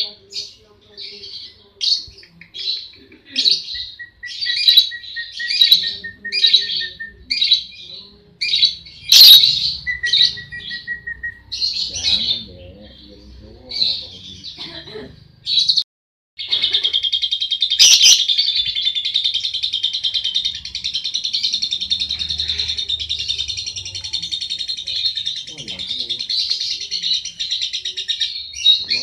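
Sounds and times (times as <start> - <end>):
lovebird chattering: 1.1 - 12.5, 16.4 - 29.0.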